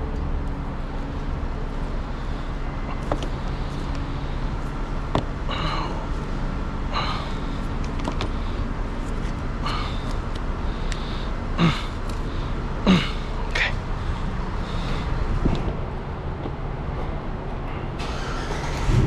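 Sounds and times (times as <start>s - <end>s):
low workshop hum: 0.0s - 19.0s.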